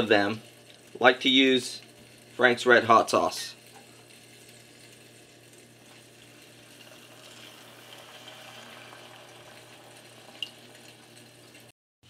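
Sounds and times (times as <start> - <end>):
liquid hiss and sizzle: 0.0 - 11.7.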